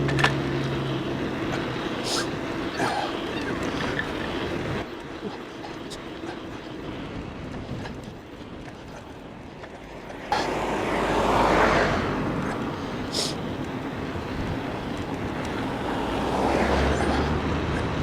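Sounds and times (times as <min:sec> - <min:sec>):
wind and tyre rush: 0:00.0 - 0:18.0.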